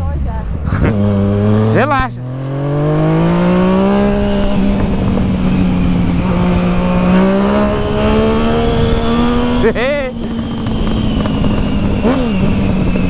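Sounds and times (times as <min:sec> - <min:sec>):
motorcycle engine accelerating: 0:00.0 - 0:13.0
wind and road noise: 0:00.0 - 0:13.0.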